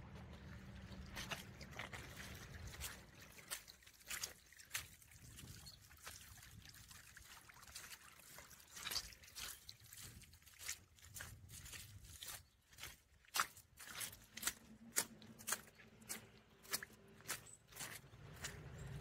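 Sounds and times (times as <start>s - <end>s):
boots squelching through mud: 0.0s - 19.0s.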